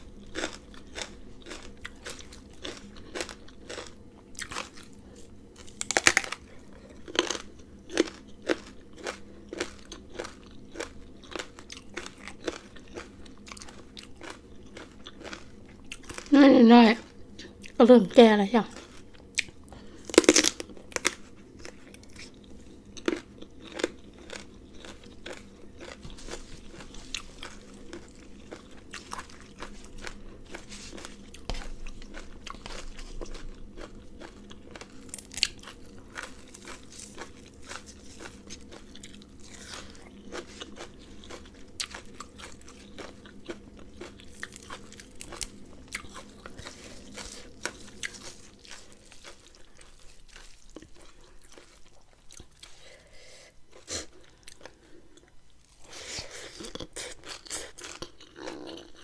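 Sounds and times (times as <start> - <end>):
crunchy chewing: 0.0 - 16.4, 18.7 - 59.0.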